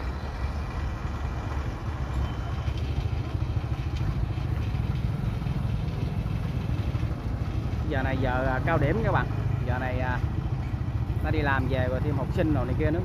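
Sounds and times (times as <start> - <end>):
vehicle engines rumbling at low speed: 0.0 - 13.0.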